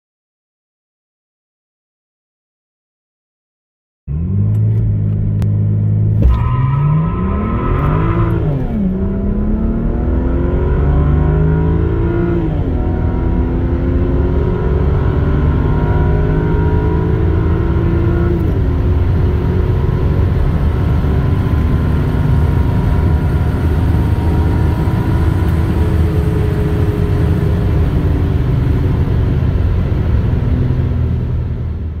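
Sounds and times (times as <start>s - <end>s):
car engine revving: 4.1s - 32.0s.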